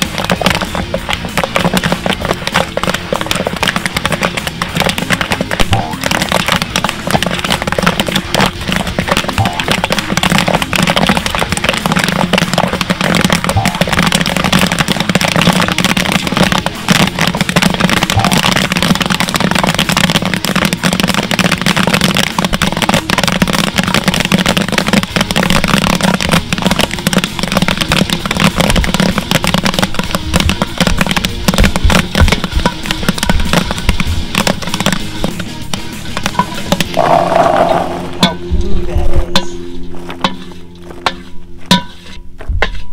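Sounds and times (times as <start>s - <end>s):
background music: 0.0s - 42.9s
kettle corn popping: 0.0s - 42.9s.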